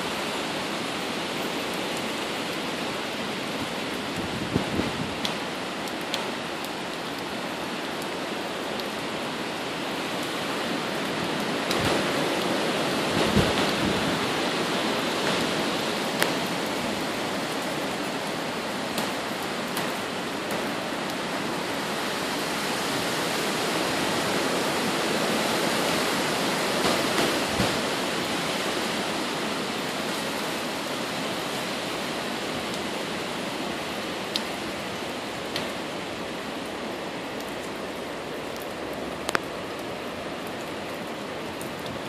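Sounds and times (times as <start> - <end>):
rain: 0.0 - 42.0
wind rushing through trees: 0.0 - 42.0.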